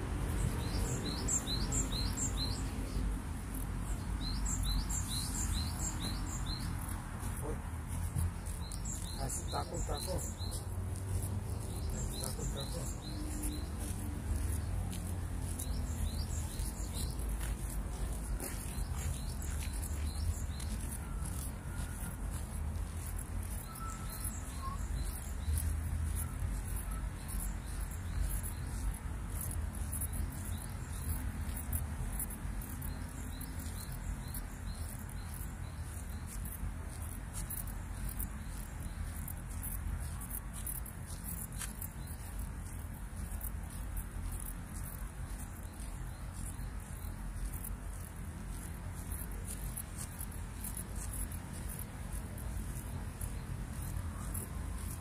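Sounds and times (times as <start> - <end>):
birds chirping: 0.2 - 55.0.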